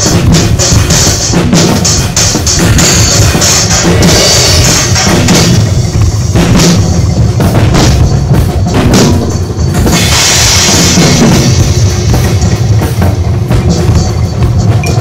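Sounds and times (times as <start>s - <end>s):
cymbal wash: 0.0s - 15.0s
drum kit playing: 0.0s - 15.0s.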